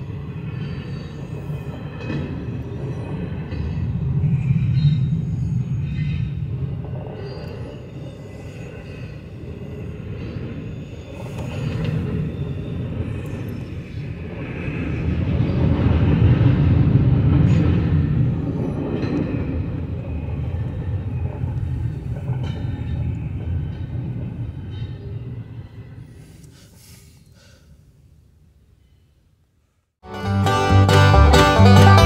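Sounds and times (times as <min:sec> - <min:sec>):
train wheels rumbling on rails: 0:00.0 - 0:26.8.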